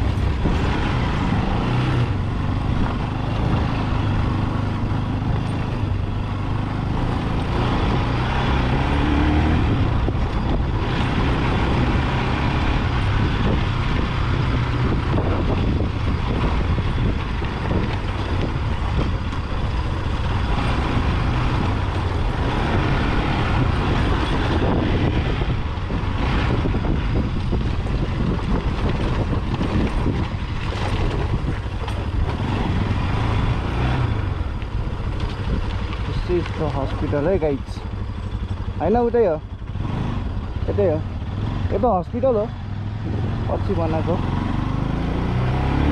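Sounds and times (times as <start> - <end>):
motorcycle engine running: 0.0 - 45.9
wind and road noise: 0.0 - 45.9.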